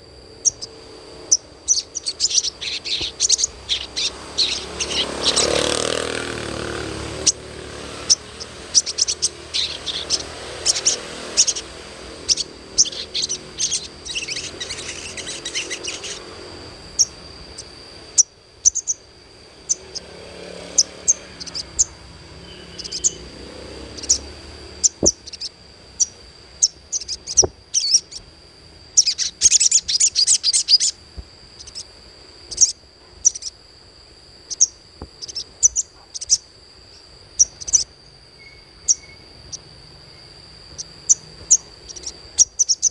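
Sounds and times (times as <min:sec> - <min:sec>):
high insect drone: 0:00.0 - 0:42.9
sunbird chirping: 0:00.0 - 0:42.9.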